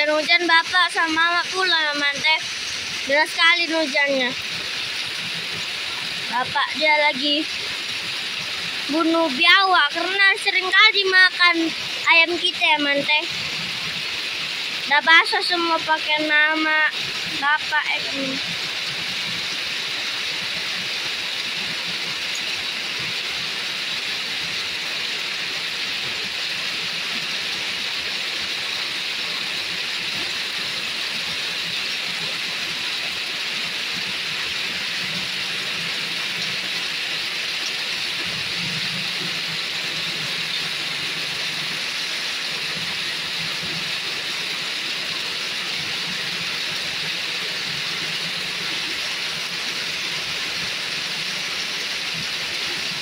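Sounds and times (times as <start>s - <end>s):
heavy rain on wet ground: 0.0s - 53.0s.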